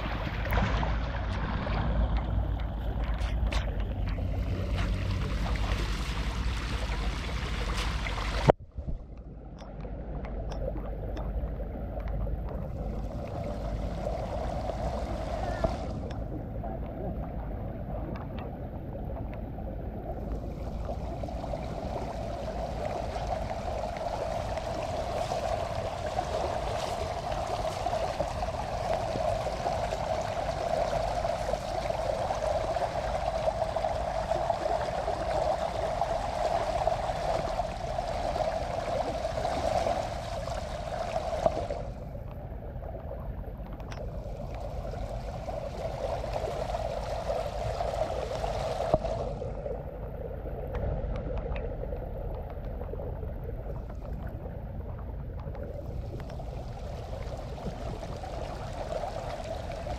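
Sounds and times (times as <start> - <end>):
water rushing and splashing: 0.0 - 8.6, 9.7 - 59.9.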